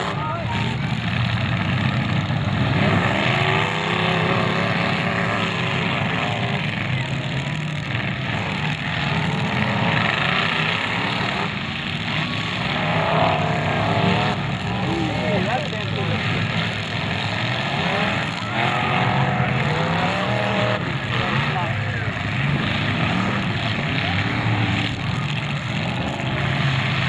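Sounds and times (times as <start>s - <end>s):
car engines revving: 0.0s - 27.0s
cars ramming each other: 0.0s - 27.0s.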